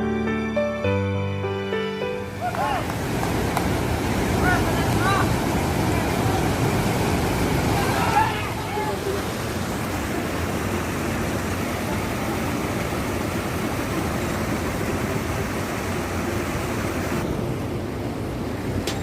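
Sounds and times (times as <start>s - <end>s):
waterfall rushing: 2.0s - 17.3s.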